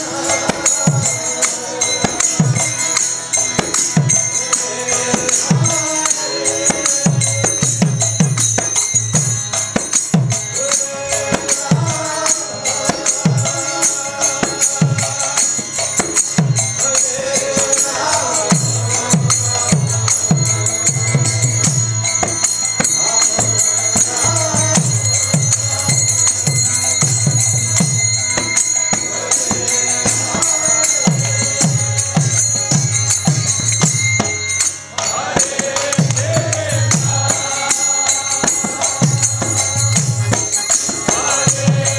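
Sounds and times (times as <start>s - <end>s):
hand cymbals ringing: 0.0s - 41.9s
voices singing a chant: 0.0s - 41.9s.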